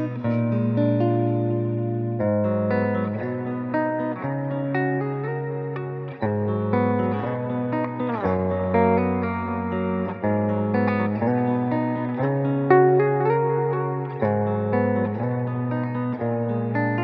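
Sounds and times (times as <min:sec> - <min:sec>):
clean electric guitar chords: 0:00.0 - 0:17.0.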